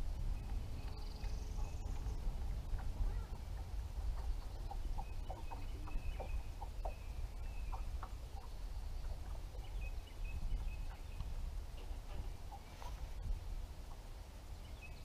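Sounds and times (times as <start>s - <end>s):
steady low rumble: 0.0s - 15.0s
birds calling: 0.3s - 14.0s.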